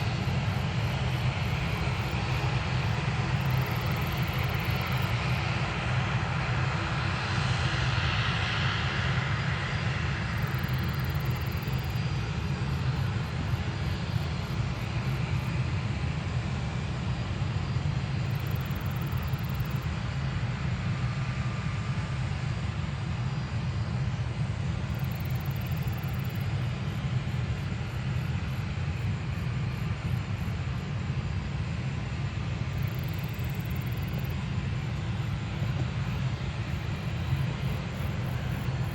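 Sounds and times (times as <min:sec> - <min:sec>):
airliner engines running: 0:00.0 - 0:38.9.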